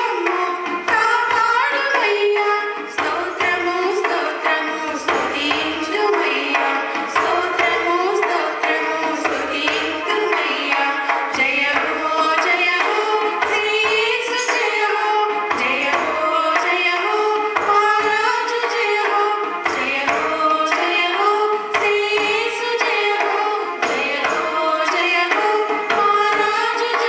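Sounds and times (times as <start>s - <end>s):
women singing together: 0.0s - 27.0s.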